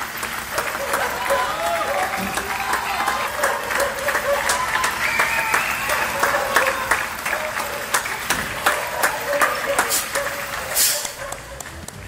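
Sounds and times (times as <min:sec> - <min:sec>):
applause: 0:00.0 - 0:12.0.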